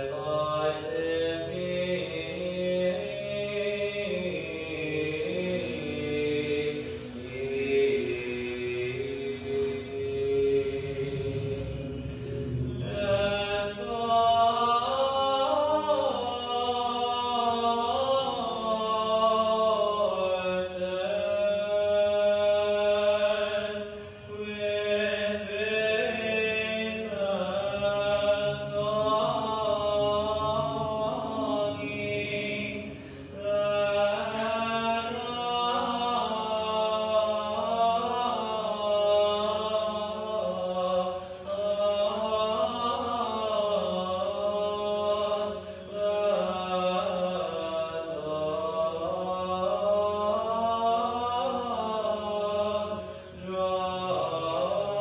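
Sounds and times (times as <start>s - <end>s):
low held drone: 0.0s - 55.0s
voices singing slow melody: 0.0s - 55.0s.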